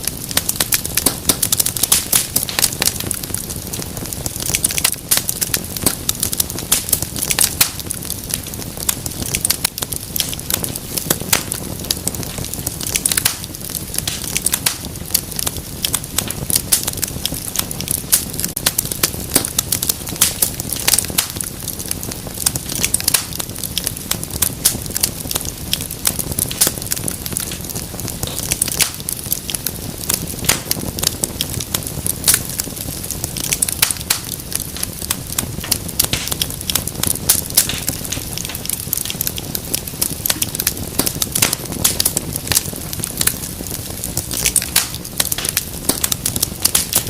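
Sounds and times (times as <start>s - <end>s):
low rush of burning: 0.0s - 47.0s
wood fire crackling: 0.0s - 47.0s.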